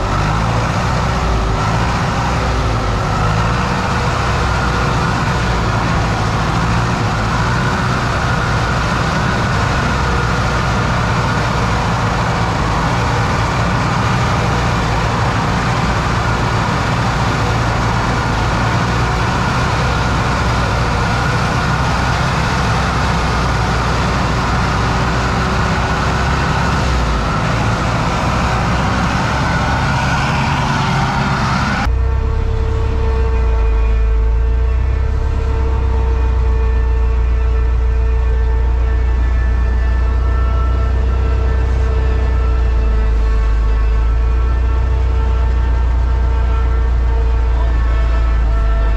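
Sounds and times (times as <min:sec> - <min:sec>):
diesel truck engine running: 0:00.0 - 0:48.9
music with long held tones: 0:00.0 - 0:48.9.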